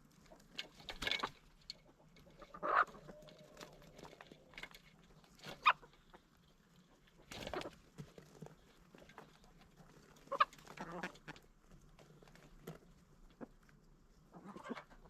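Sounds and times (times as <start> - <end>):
rustling: 0.0 - 15.0
chickens clucking: 0.1 - 15.0.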